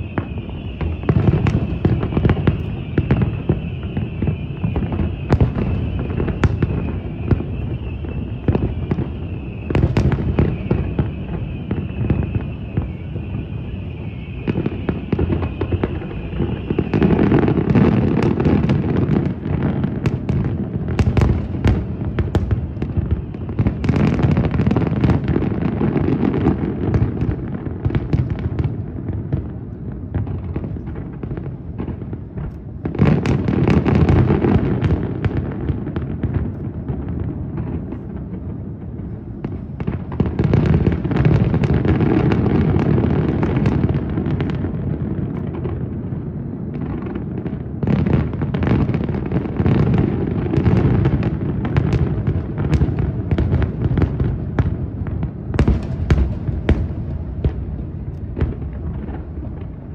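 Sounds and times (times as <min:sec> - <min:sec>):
fireworks booms and crackling: 0:00.0 - 0:59.9.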